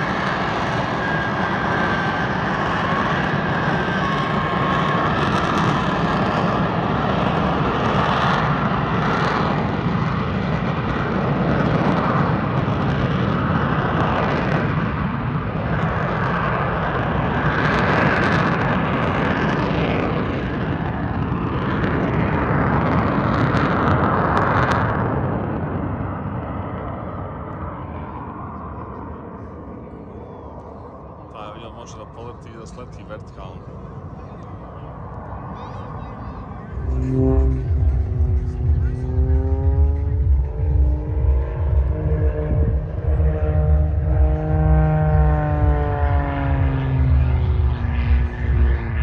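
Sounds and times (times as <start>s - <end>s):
jet fighter engine roar: 0.0s - 49.0s.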